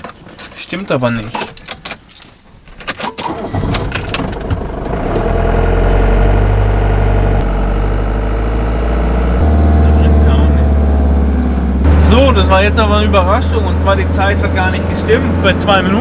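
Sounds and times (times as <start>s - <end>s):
diesel engine cranking and running: 3.0s - 16.0s.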